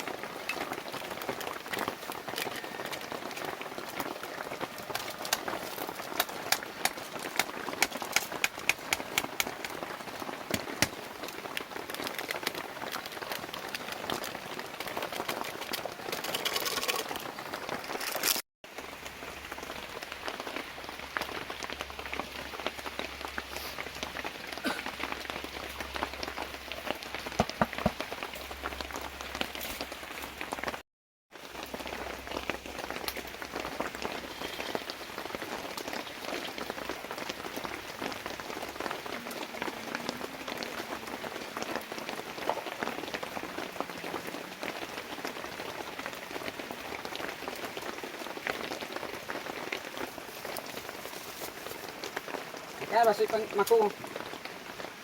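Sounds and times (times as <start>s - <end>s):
heavy rain falling: 0.0s - 30.8s, 31.4s - 55.0s.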